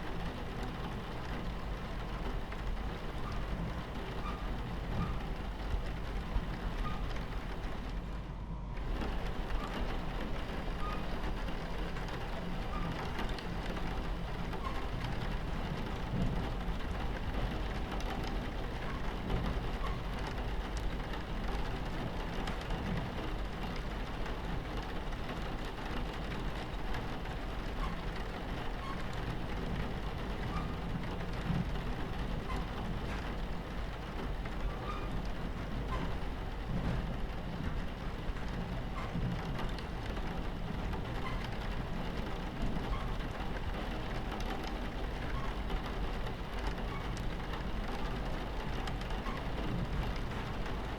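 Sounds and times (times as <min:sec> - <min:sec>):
rain on train window: 0:00.0 - 0:50.9
train rumbling on tracks: 0:00.0 - 0:50.9.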